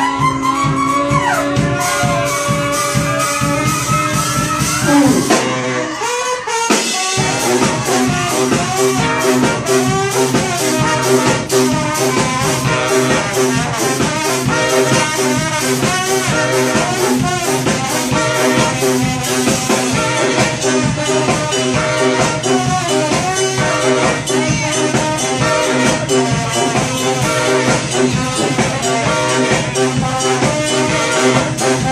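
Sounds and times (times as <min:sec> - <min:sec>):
brass band playing: 0:00.0 - 0:31.9
drum kit beat: 0:00.0 - 0:31.9.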